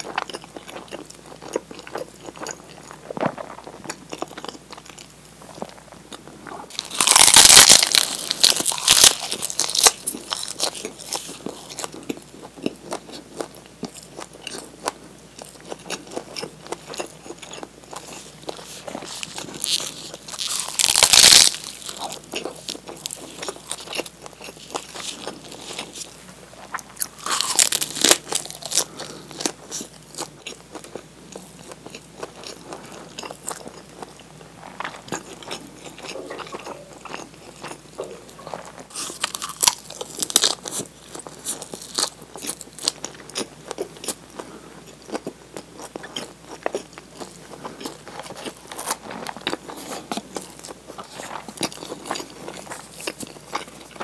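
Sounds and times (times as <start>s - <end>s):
crunchy bites of food: 0.0s - 54.0s.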